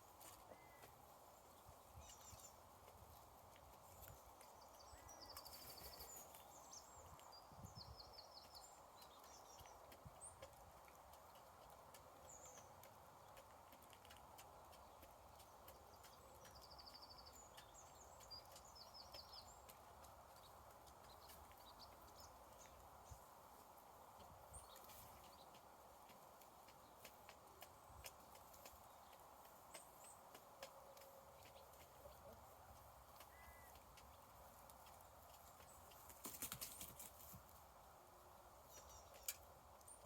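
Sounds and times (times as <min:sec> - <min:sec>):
small birds chirping: 0:00.0 - 0:40.0
light taps and ticks: 0:00.2 - 0:37.6, 0:38.7 - 0:40.0.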